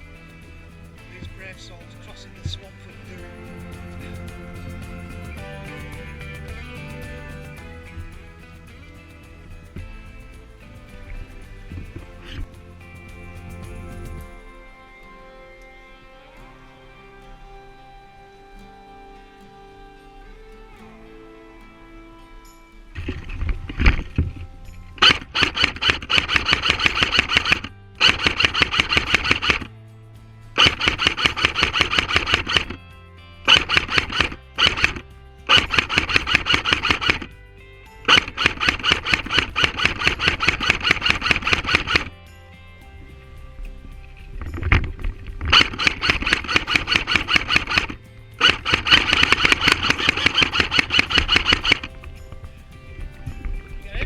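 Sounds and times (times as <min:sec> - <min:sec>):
music with fast driving beat: 0:00.0 - 0:15.4, 0:25.0 - 0:54.0.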